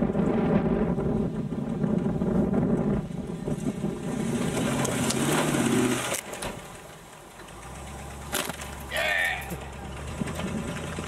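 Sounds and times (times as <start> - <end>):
car engine working hard: 0.0 - 11.0.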